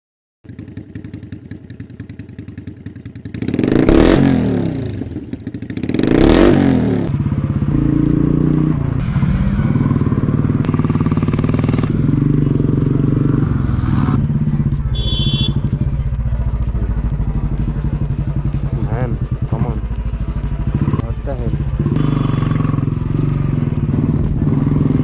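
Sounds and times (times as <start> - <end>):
motorcycle engine running: 0.4 - 25.0.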